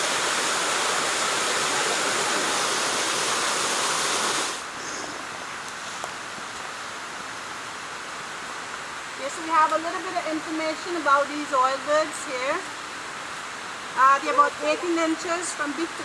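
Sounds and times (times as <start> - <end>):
flowing water rushing: 0.0 - 16.0
quiet hiss: 0.0 - 16.0.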